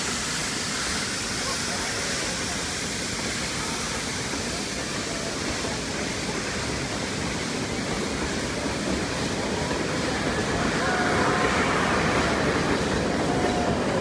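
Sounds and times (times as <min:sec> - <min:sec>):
train rolling over wooden bridge: 0:01.3 - 0:14.0.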